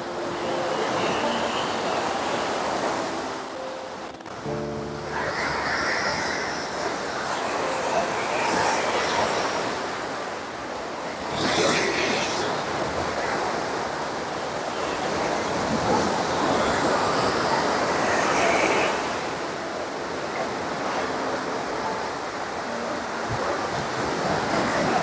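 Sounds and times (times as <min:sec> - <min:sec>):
sea waves breaking on a beach: 0:00.0 - 0:25.0.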